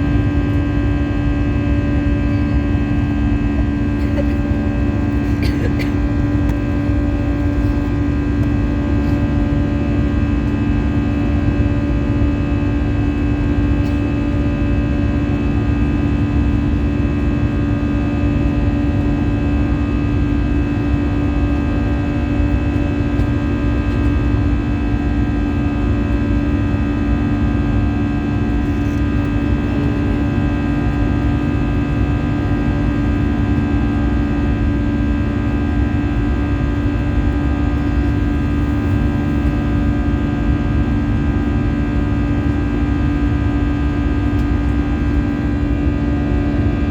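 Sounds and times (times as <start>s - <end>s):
aircraft cabin engine drone: 0.0s - 46.9s.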